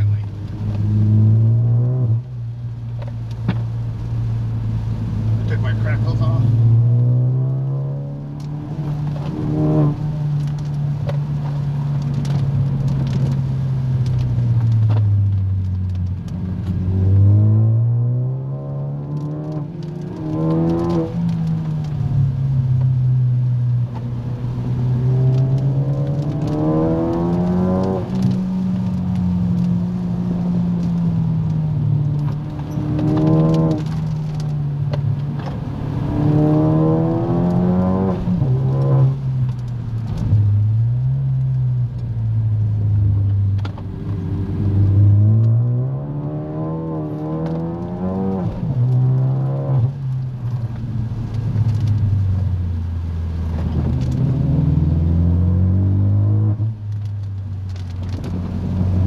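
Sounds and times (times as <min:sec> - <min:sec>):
car engine revving and slowing: 0:00.0 - 0:59.0.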